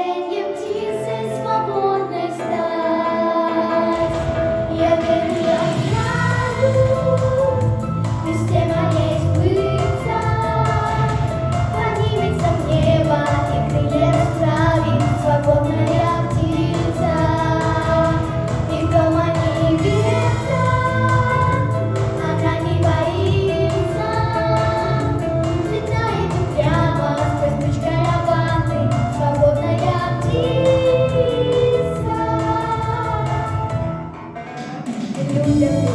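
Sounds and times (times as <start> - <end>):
girls singing pop duet: 0.0 - 34.1, 35.2 - 35.9
backing track with beat and bass: 3.7 - 35.9.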